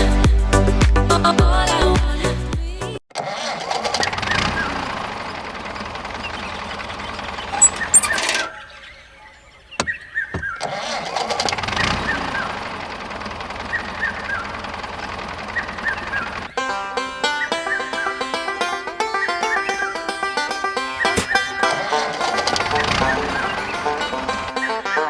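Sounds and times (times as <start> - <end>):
tractor engine running: 3.2 - 25.0.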